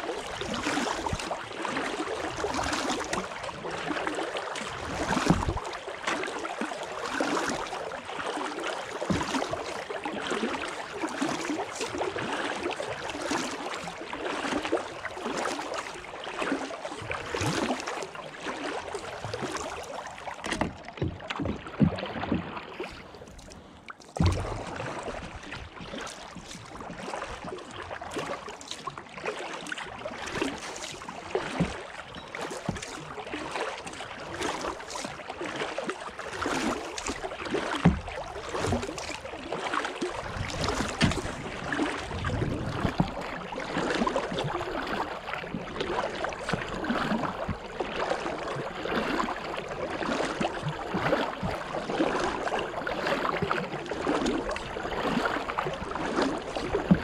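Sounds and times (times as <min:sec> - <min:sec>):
paddle splashing in water: 0:00.0 - 0:57.0.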